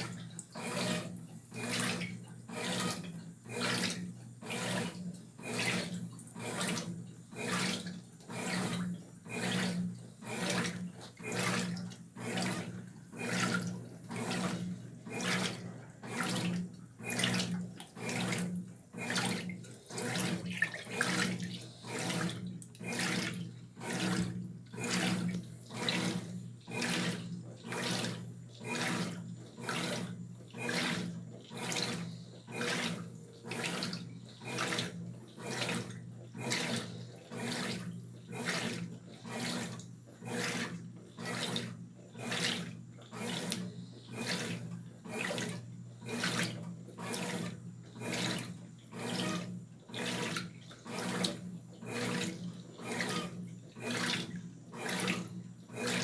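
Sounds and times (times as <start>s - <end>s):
washing machine motor hum: 0.0s - 56.0s
water and clothes sloshing: 0.0s - 56.0s.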